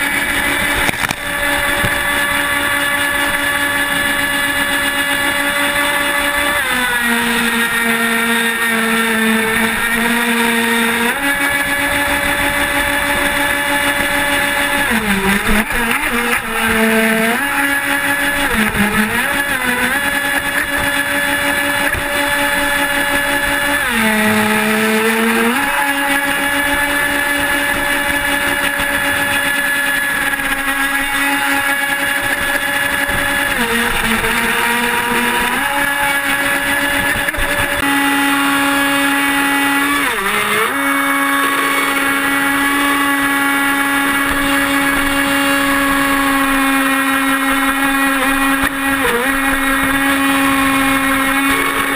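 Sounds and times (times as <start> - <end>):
model speedboat motor whining: 0.0 - 51.9.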